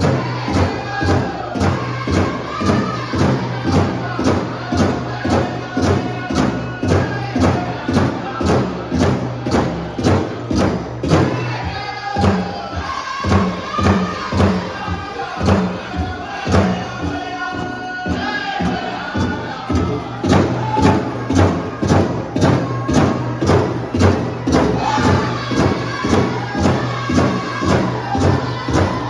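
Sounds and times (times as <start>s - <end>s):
group of voices singing: 0.0s - 29.0s
large drum steady beat: 0.0s - 29.0s.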